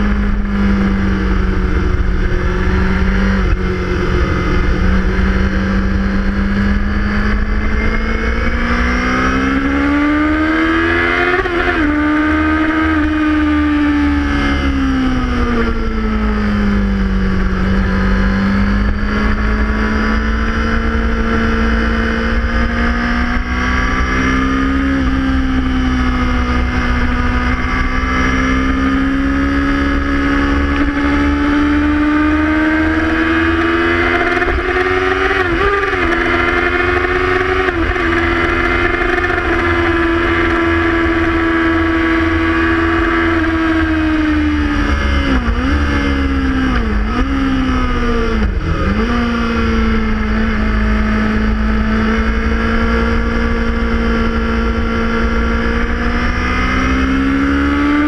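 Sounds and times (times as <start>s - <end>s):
motorcycle engine at high revs: 0.0s - 58.0s
wind rumble: 0.0s - 58.0s.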